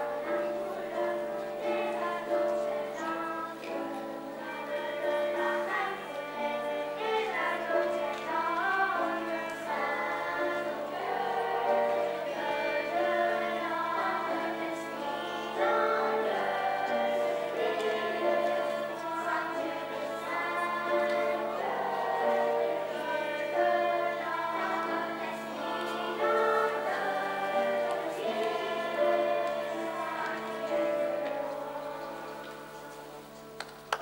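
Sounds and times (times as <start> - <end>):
children's choir singing: 0.0 - 34.0
violin: 0.0 - 34.0.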